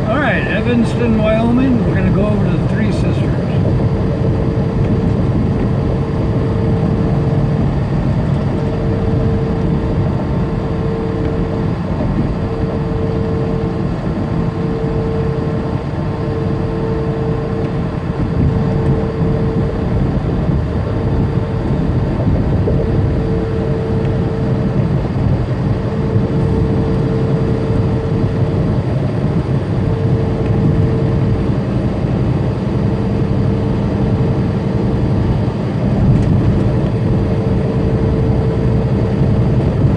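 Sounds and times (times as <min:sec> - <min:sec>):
diesel engine drone: 0:00.0 - 0:39.9
faint whine: 0:00.0 - 0:39.9
road noise: 0:00.0 - 0:39.9.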